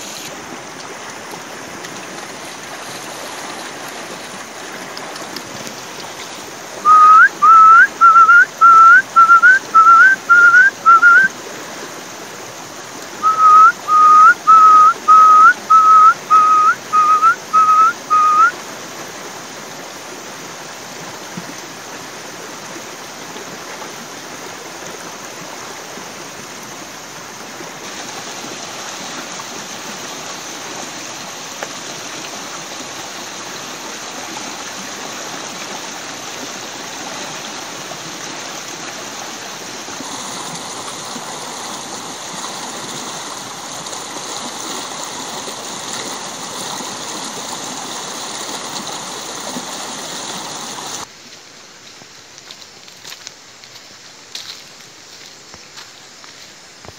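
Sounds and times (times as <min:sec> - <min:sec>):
water tumbling down a cascade: 0:00.0 - 0:51.1
stream rushing over rocks: 0:00.0 - 0:56.9.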